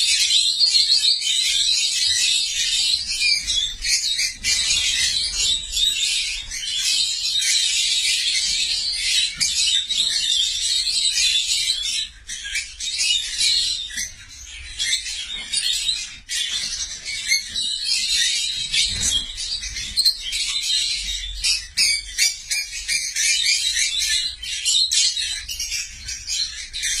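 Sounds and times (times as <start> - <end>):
lovebirds chattering: 0.0 - 27.0.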